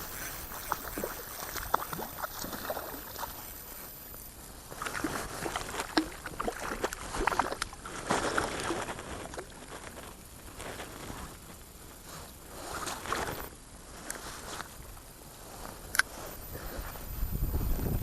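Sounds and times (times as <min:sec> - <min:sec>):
water splashing and sloshing: 0:00.0 - 0:14.8.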